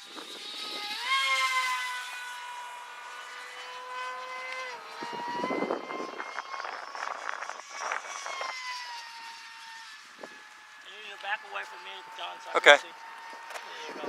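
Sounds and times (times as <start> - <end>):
model airplane motor whining: 0.0 - 14.0.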